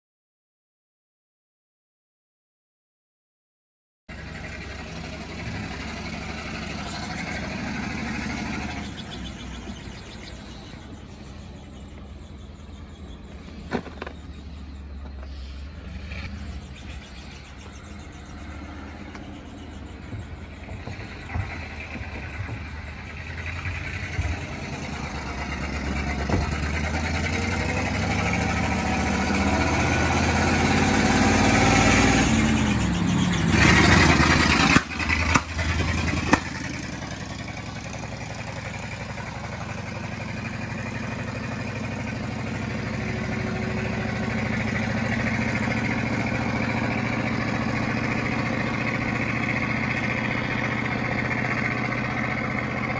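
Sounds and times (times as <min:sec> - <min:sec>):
truck engine pulling away: 0:04.1 - 0:52.9.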